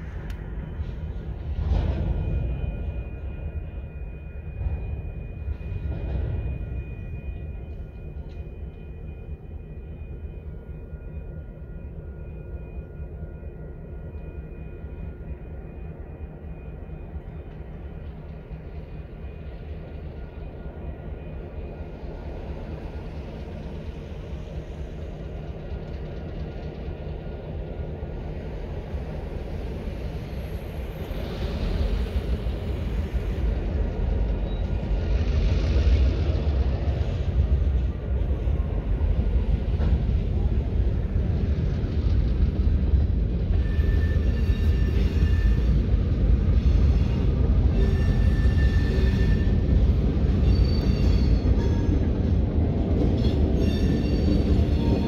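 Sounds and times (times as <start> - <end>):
distant diesel locomotive rumbling: 0.0 - 55.0.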